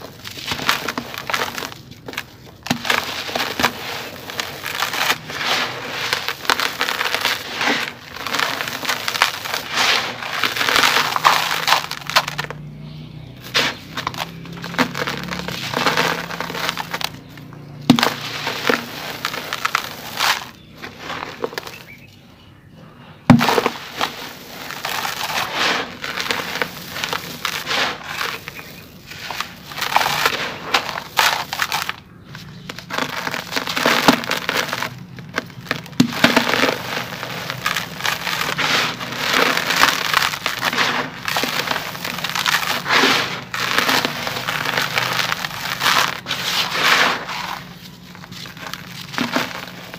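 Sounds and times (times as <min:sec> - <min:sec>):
sharp crack: 0:00.0 - 0:22.0, 0:23.3 - 0:49.9
cement powder pouring and raking: 0:00.0 - 0:22.1, 0:23.3 - 0:49.9
cement chunks crumbling: 0:00.0 - 0:22.2, 0:23.3 - 0:49.9.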